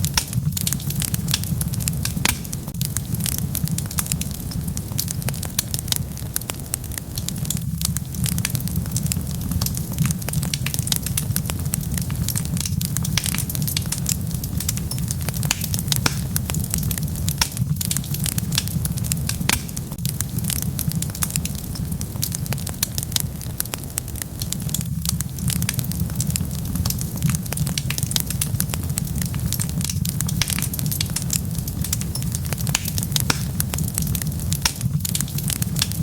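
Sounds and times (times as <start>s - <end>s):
crackles and pops of burning wood: 0.0s - 36.0s
wood fire burning: 0.0s - 36.0s.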